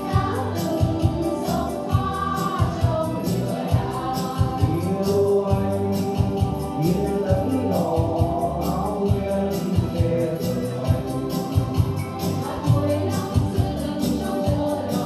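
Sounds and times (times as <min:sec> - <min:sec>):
steady drum beat: 0:00.0 - 0:15.0
voices singing: 0:00.0 - 0:15.0.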